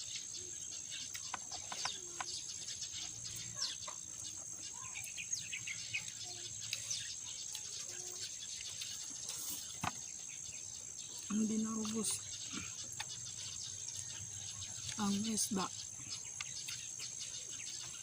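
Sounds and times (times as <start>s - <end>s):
crickets droning: 0.0s - 18.0s.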